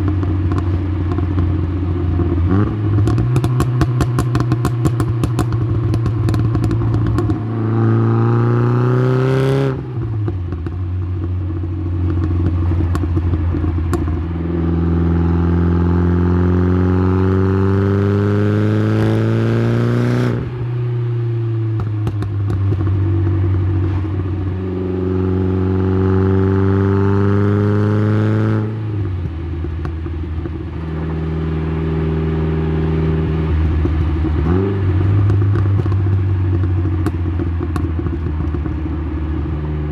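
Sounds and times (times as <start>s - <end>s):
exhaust crackling and popping: 0.0s - 8.8s, 9.8s - 15.3s, 17.2s - 26.4s, 27.1s - 39.9s
turbocharged car engine exhaust: 0.0s - 39.9s.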